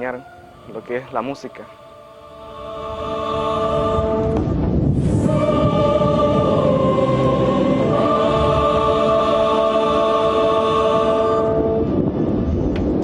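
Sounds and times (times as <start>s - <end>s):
choir singing held chords: 0.0s - 12.5s
low rumbling noise: 0.0s - 13.0s.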